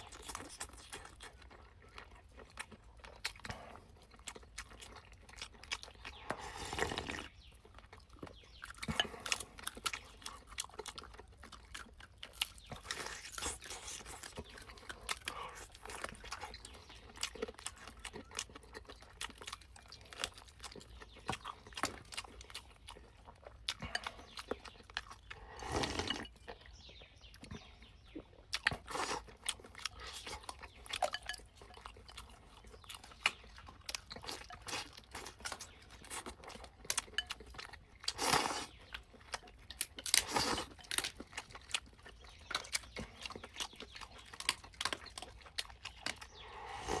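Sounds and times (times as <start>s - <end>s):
person chewing and crunching: 0.0s - 47.0s.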